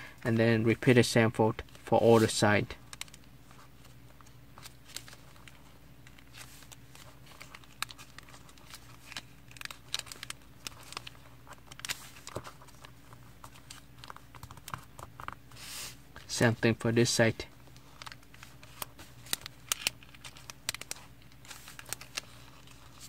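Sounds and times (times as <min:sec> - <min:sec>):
faint steady hum: 0:00.0 - 0:23.0
paper being folded: 0:01.6 - 0:16.4, 0:17.7 - 0:23.0.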